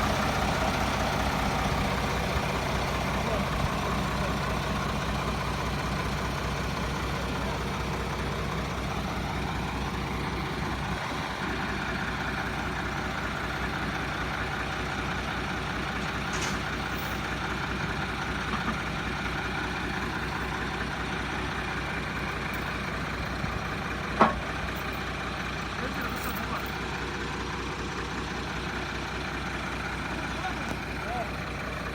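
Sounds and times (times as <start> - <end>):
truck engine droning: 0.0 - 31.9.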